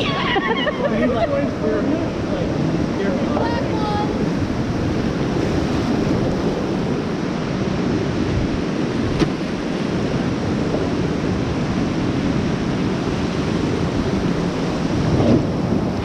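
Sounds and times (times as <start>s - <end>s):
whitewater rapids rushing: 0.0s - 16.0s
wind buffeting microphone: 0.0s - 16.0s.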